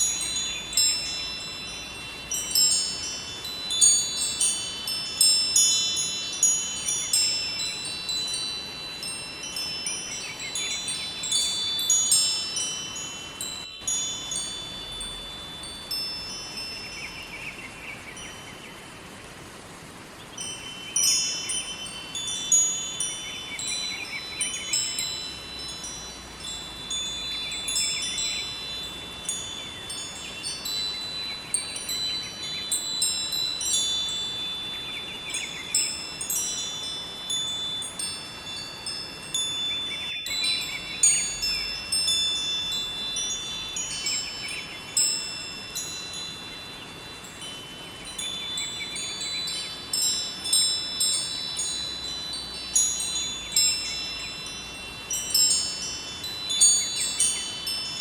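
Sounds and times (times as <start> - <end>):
wind chimes ringing: 0.0 - 18.7, 19.8 - 58.0
river water rushing: 0.0 - 58.0.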